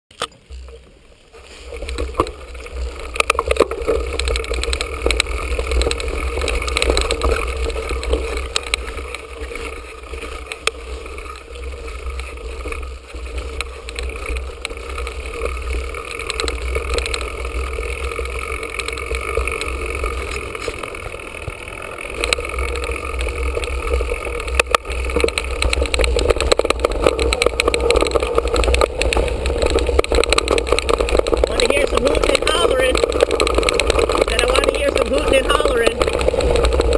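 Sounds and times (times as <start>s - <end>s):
tyres on gravel: 0.1s - 36.9s
wind rumbling on microphone: 0.6s - 36.9s
bike rattling and knocking: 1.6s - 36.9s.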